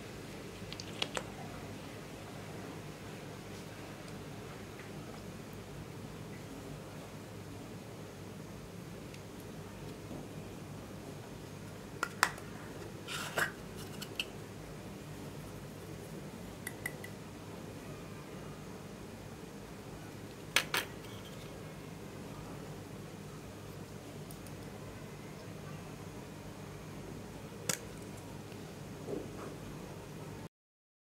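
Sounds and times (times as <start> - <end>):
low background hum: 0.0 - 30.5.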